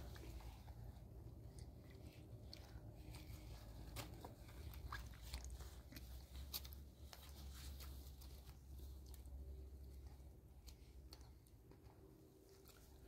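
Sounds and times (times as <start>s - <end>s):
child eating: 0.0s - 13.0s
low steady hum: 0.0s - 13.0s.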